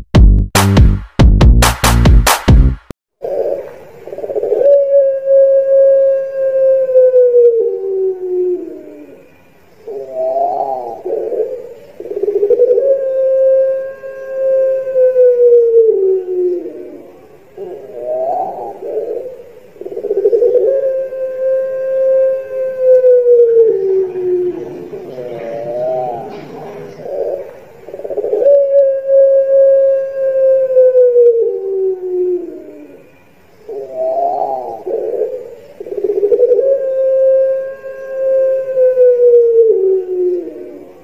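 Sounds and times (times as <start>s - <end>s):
dove cooing: 3.2s - 41.0s.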